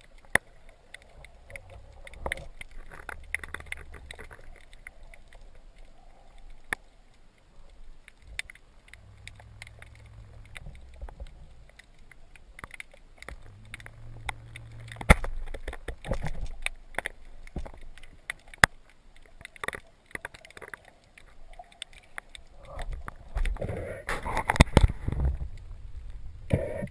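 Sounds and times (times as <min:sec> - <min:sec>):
rumble of moving water: 0:00.0 - 0:26.9
underwater clicks and crackles: 0:00.0 - 0:26.9.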